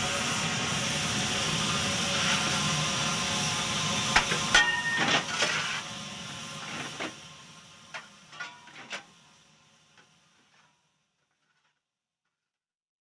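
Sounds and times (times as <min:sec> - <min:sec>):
steam locomotive hissing: 0:00.0 - 0:10.4.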